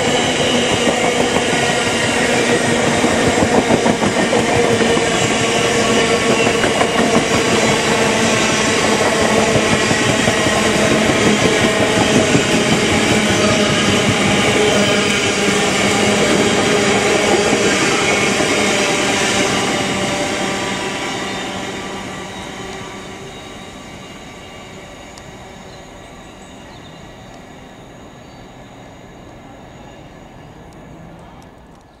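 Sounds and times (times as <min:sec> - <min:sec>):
freight train passing: 0:00.0 - 0:32.0.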